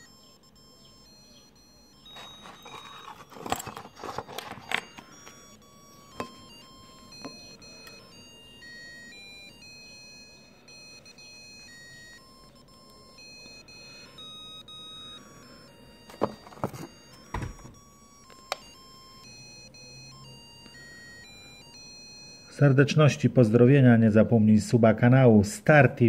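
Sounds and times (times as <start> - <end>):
digital watch beeping melody: 0.0 - 24.0.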